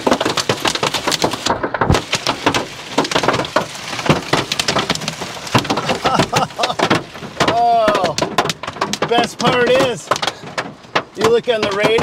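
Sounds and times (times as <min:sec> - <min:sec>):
heavy rain on hard surface: 0:00.0 - 0:12.0.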